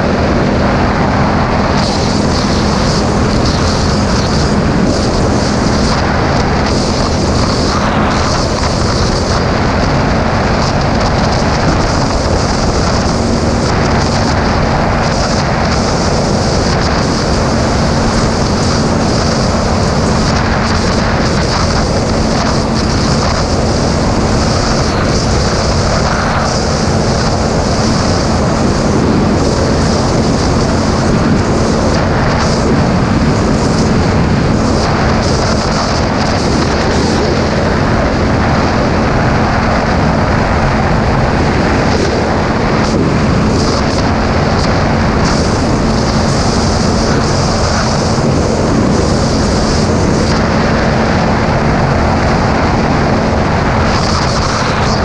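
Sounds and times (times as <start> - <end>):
motorcycle engine steady revs: 0.0 - 55.0
wind rush on microphone: 0.0 - 55.0.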